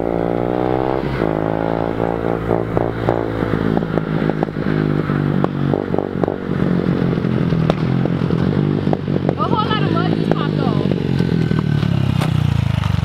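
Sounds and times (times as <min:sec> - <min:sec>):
dirt bike engine running unevenly: 0:01.9 - 0:13.0.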